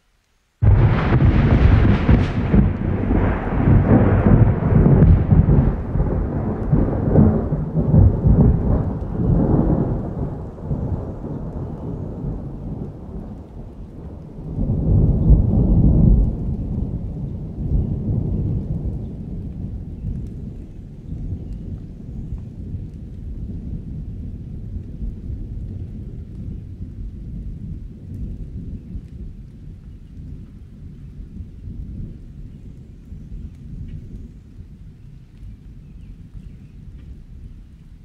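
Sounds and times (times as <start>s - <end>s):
steady rain: 0.0s - 38.0s
thunder rumbling: 0.6s - 38.0s.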